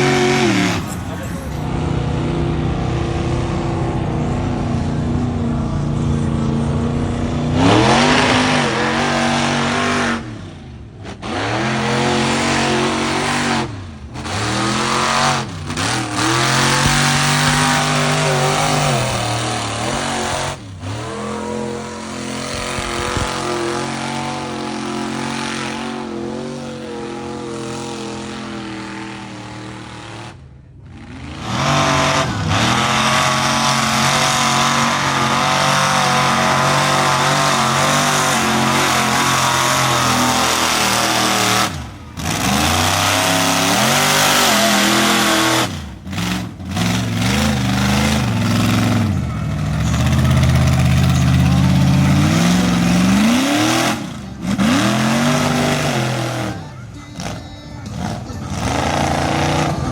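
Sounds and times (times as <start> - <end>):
truck engine revving hard: 0.0 - 59.9.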